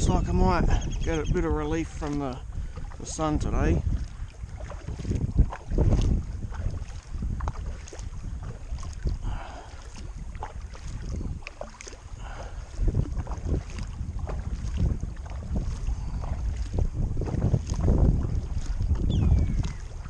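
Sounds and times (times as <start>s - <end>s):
wind buffeting microphone: 0.0s - 20.0s
paddle splashing in water: 0.7s - 20.0s.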